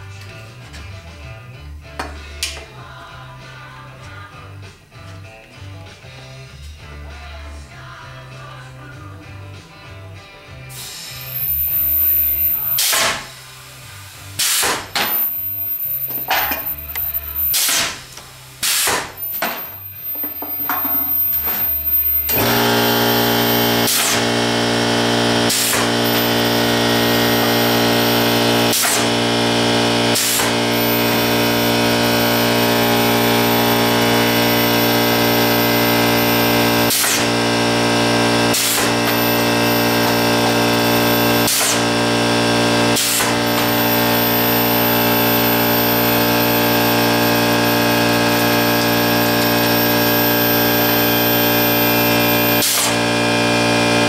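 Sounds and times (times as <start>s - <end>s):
air compressor running: 10.7s - 54.0s
pneumatic air blasts: 10.7s - 54.0s.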